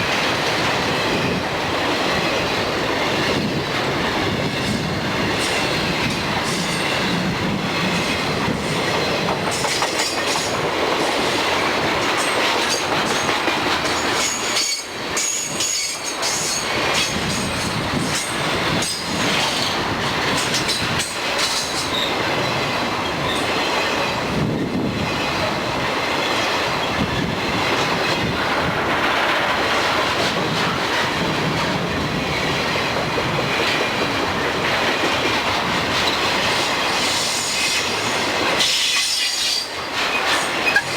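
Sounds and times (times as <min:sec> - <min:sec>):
freight train cars rolling: 0:00.0 - 0:40.9
wheels clacking over rail joints: 0:00.0 - 0:40.9.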